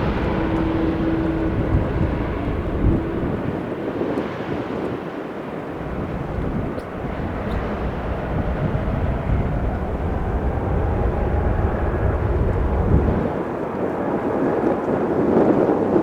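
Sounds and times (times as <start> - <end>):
jet engine roar: 0.0 - 16.0
wind rumble on microphone: 0.0 - 16.0.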